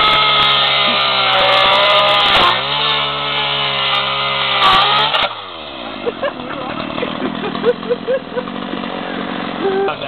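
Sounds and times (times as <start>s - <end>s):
chainsaw cutting plastic and metal: 0.0s - 10.0s.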